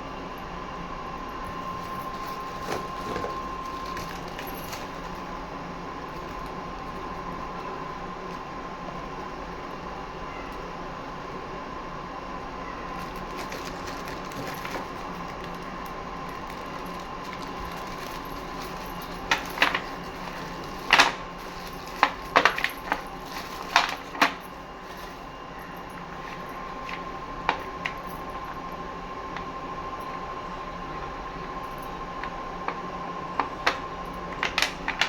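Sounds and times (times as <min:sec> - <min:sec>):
faint hum: 0:00.0 - 0:35.0.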